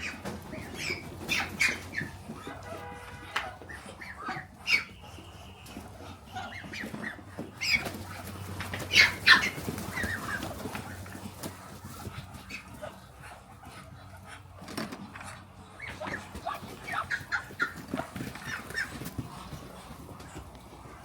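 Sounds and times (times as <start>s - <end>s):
farm animals calling: 0.0s - 21.0s.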